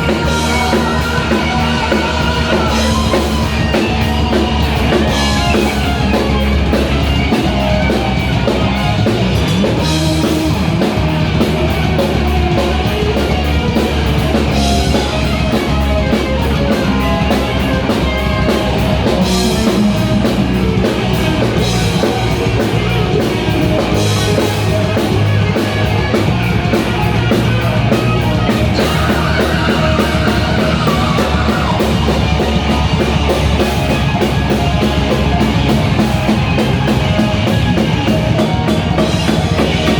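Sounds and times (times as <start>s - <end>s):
bass guitar: 0.0s - 39.9s
drum kit with cymbal hits: 0.0s - 39.9s
electric guitar: 0.0s - 39.9s.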